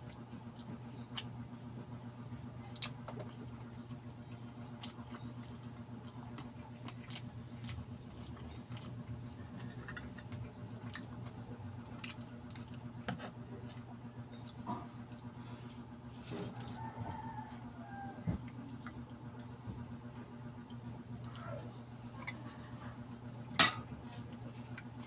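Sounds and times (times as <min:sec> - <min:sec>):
wet chewing: 0:00.0 - 0:01.4, 0:02.6 - 0:25.0
steady low hum: 0:00.0 - 0:25.0.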